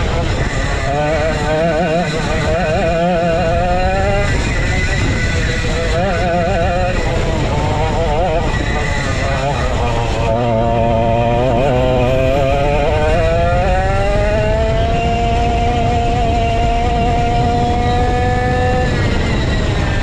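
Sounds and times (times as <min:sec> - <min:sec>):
go-kart engine running hard: 0:00.0 - 0:20.0.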